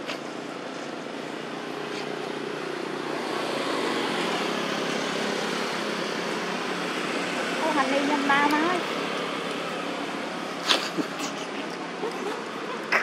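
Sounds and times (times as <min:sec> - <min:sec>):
passing road traffic drone: 0:00.0 - 0:13.0.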